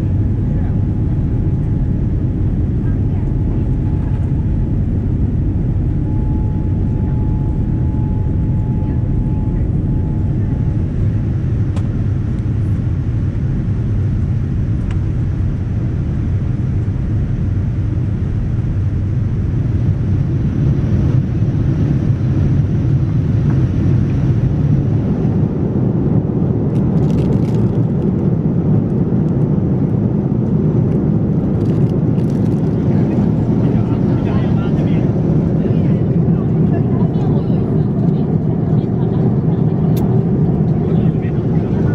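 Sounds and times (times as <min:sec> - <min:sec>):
airplane cabin engine roar: 0:00.0 - 0:41.9.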